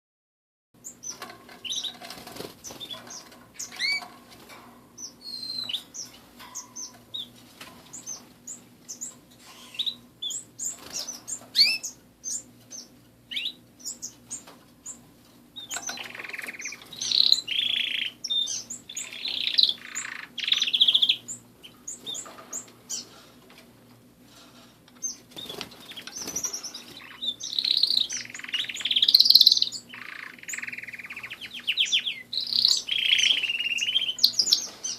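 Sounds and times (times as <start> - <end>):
canaries chirping and trilling: 0.8 - 34.9.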